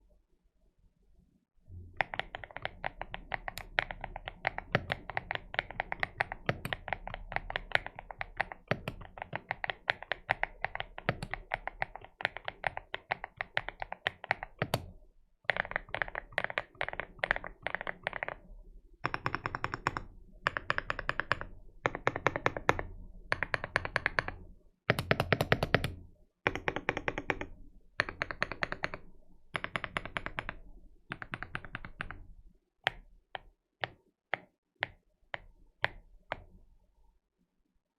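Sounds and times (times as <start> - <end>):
mechanical keyboard typing: 2.0 - 36.5.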